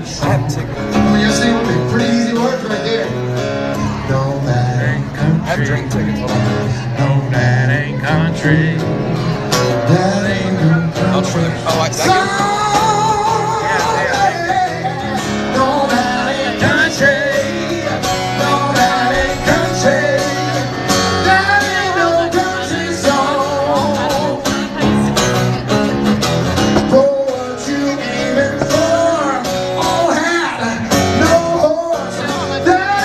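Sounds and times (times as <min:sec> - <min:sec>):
man singing: 0:00.0 - 0:24.9, 0:26.6 - 0:33.0
acoustic guitar strummed: 0:00.0 - 0:33.0.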